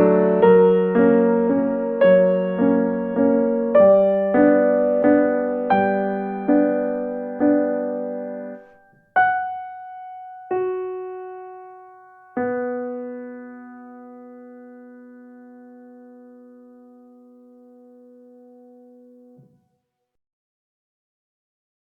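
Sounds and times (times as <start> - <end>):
piano chords and notes: 0.0 - 19.6.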